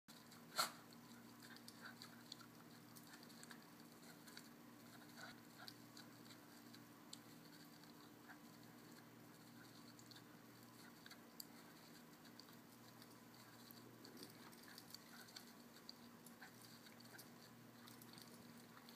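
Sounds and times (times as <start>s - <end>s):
faint steady hum: 0.1s - 18.9s.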